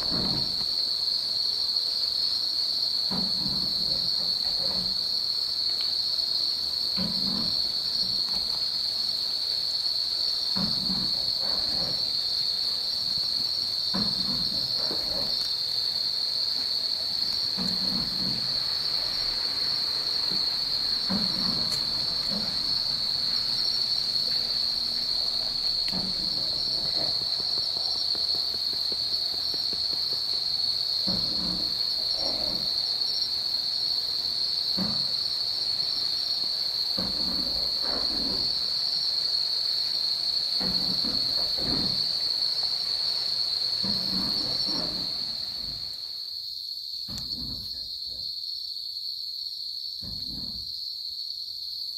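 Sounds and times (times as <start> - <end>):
night insects trilling: 0.0 - 51.9.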